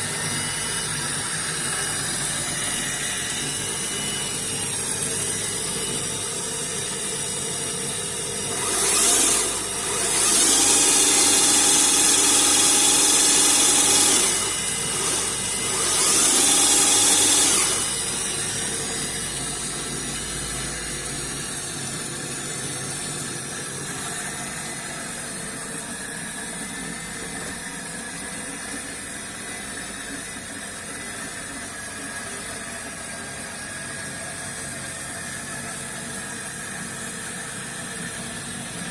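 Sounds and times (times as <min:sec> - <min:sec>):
milling machine running: 0:00.0 - 0:38.9.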